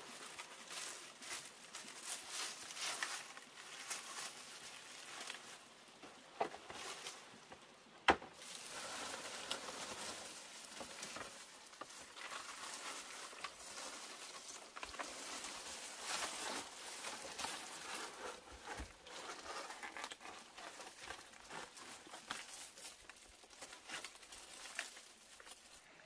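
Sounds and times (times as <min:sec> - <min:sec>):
leaves and twigs rustling: 0:00.0 - 0:26.0.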